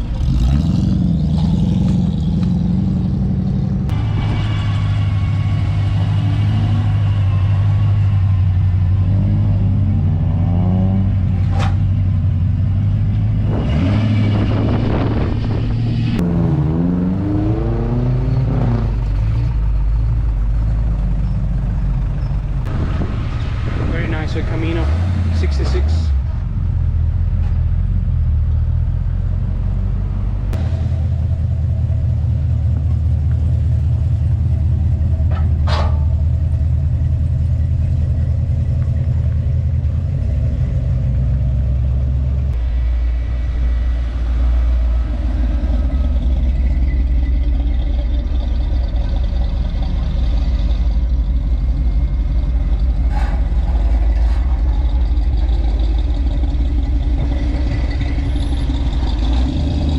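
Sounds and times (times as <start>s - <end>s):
car engines idling and pulling away: 0.0s - 59.9s.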